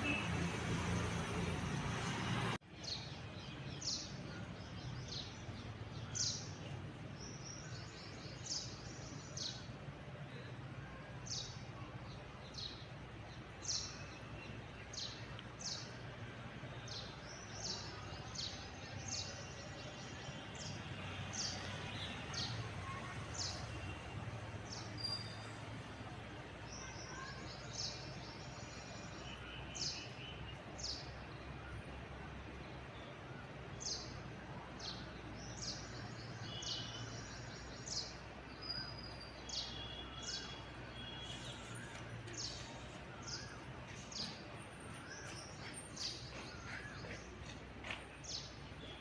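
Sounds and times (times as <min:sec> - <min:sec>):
small birds chirping: 0:02.6 - 0:24.0, 0:26.6 - 0:49.0.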